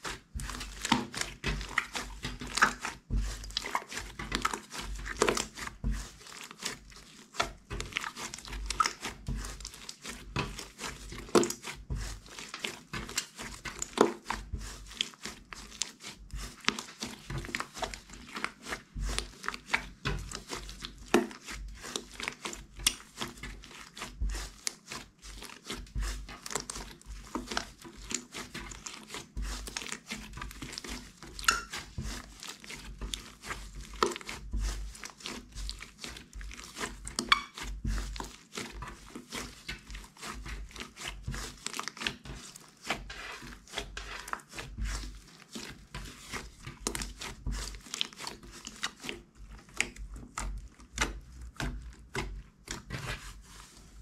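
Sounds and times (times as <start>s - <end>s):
slime squelching thuds: 0.0s - 54.0s.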